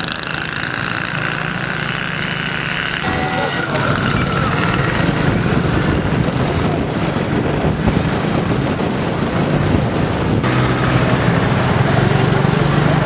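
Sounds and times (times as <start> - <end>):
motorcycle engine running: 0.0 - 13.0
street traffic: 0.0 - 13.0.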